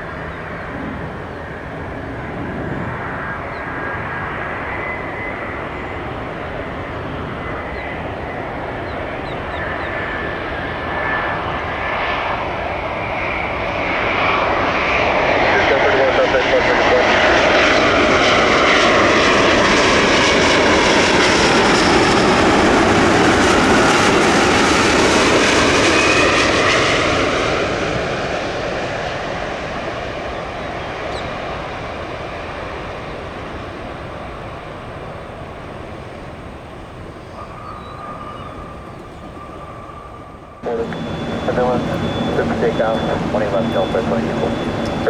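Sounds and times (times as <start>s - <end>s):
jet engines passing: 0.0s - 45.0s.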